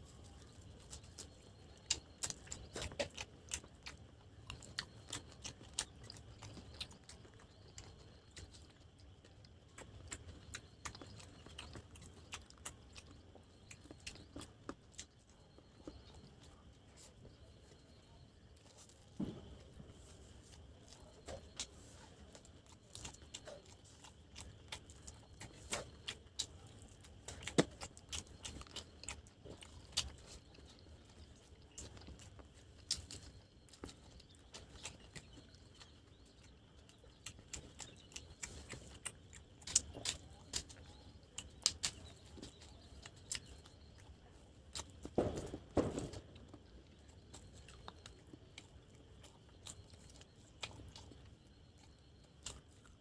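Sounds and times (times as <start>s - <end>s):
wet chewing: 0.0s - 53.0s.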